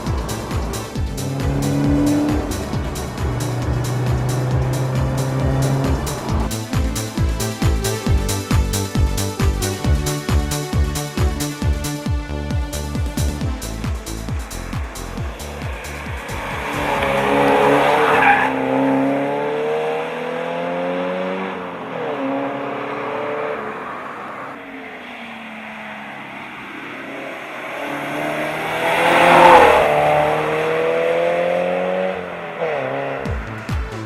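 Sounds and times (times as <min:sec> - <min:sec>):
car engine accelerating: 0:00.0 - 0:09.1, 0:12.8 - 0:34.0.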